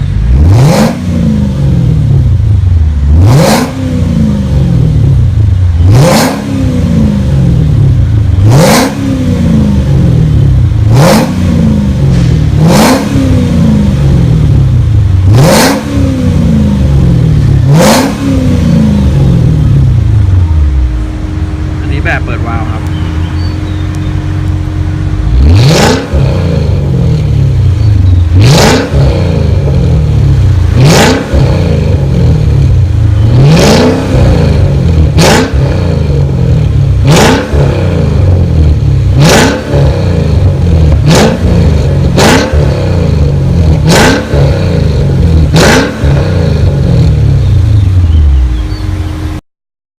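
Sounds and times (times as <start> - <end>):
car engine revving: 0.0 - 49.4.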